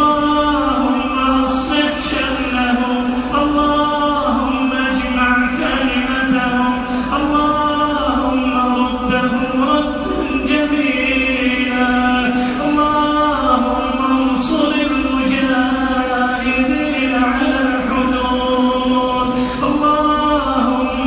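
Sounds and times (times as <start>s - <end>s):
wordless vocal chant: 0.0s - 21.0s.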